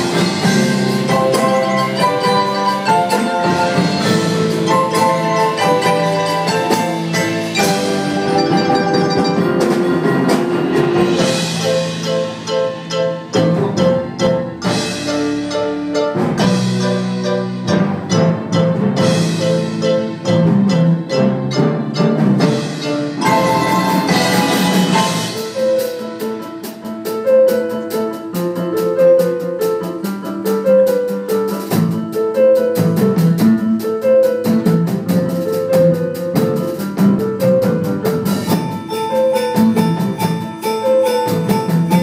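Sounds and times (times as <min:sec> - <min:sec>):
mallet percussion ensemble playing: 0:00.0 - 0:42.0.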